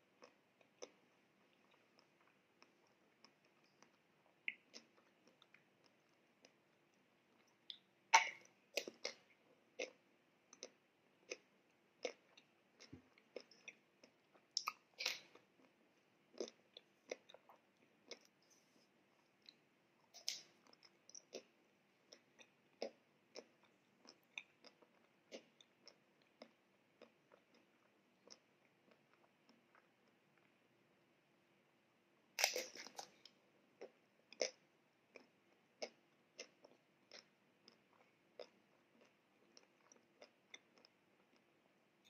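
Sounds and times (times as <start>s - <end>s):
chewing with crisp crackles: 0.0s - 30.8s, 32.2s - 42.0s.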